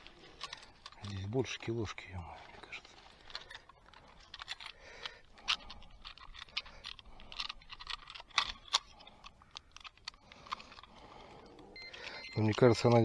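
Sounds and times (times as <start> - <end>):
fishing gear clicks and rustles: 0.0 - 13.0.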